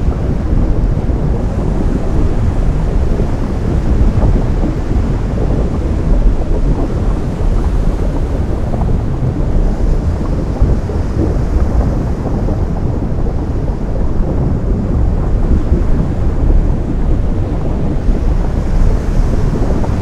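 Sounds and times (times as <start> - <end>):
deep rumble of sea surf: 0.0 - 20.0.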